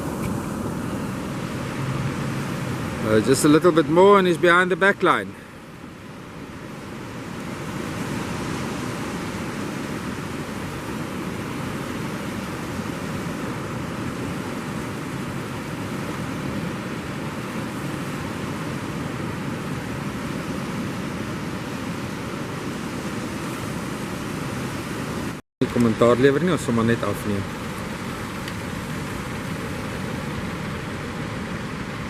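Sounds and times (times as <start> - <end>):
ocean surf rushing: 0.0 - 32.0.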